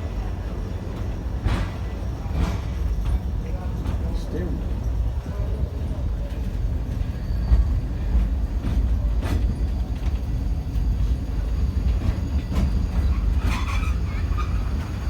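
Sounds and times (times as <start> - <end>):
tramcar rumbling on rails: 0.0 - 15.0.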